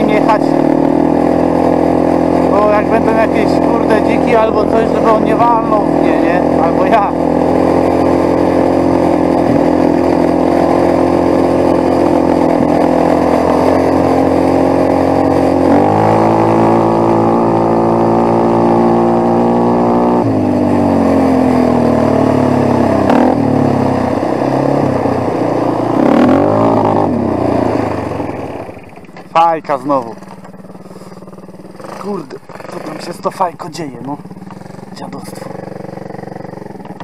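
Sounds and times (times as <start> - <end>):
quad bike engine revving: 0.0 - 37.0.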